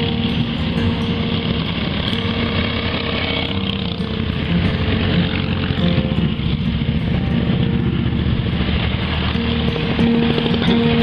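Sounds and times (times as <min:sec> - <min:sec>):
motorcycles riding by: 0:00.0 - 0:11.0.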